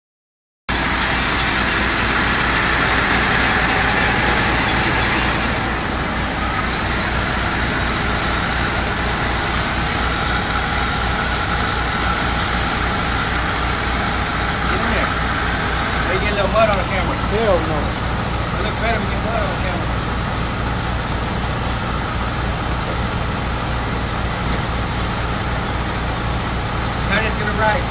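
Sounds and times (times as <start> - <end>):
drilling rig machinery running: 0.7 - 27.9.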